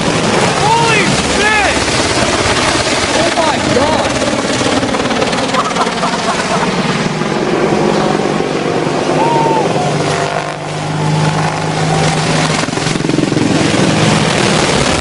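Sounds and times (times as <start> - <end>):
helicopter engine drone: 0.0 - 15.0
helicopter rotor beat: 0.0 - 15.0.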